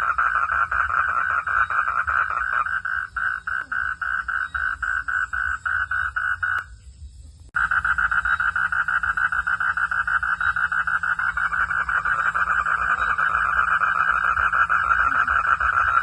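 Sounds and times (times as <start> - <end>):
frog calling in pulses: 0.0 - 6.7, 7.6 - 16.0.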